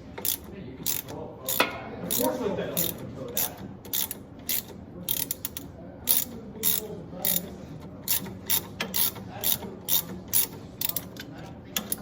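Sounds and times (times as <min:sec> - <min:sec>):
ratchet wrench clicking: 0:00.2 - 0:12.0.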